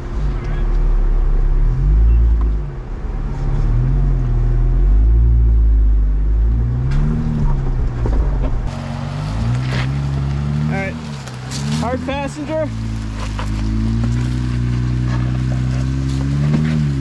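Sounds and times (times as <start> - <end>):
engine revving under light throttle: 0.0 - 17.0.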